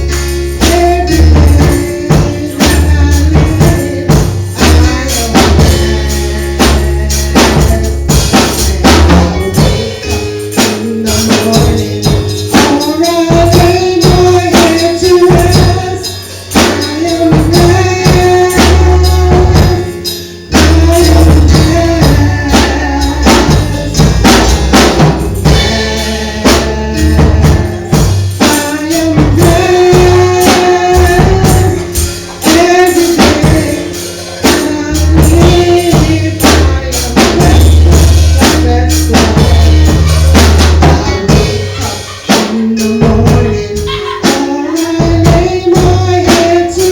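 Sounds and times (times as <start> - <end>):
band music with drums and bass: 0.0 - 46.9
person singing: 0.0 - 46.9.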